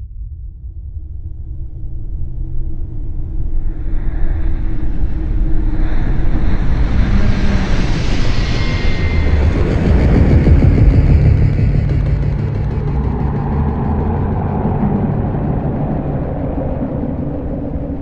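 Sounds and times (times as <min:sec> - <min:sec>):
deep rumble: 0:00.0 - 0:18.0
wind-like rushing noise: 0:03.4 - 0:18.0.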